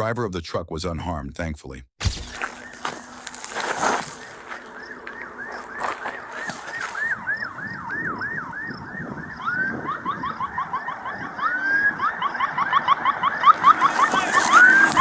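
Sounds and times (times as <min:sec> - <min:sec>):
electronic police siren: 0:02.5 - 0:15.0.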